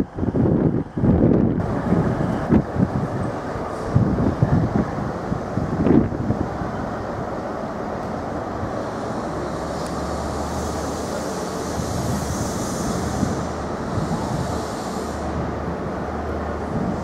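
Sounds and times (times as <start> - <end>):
diesel train engine humming: 0.0 - 17.0.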